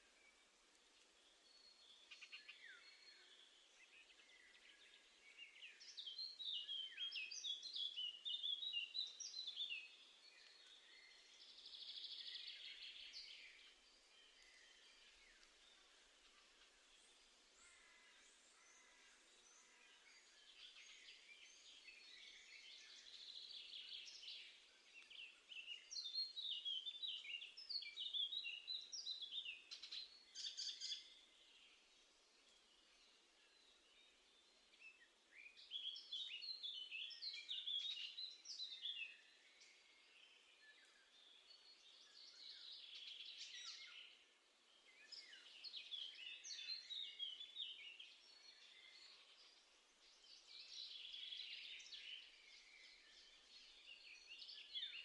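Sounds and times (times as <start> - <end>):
faint outdoor hiss: 0.0 - 55.0
songbirds singing and chirping: 0.0 - 55.0.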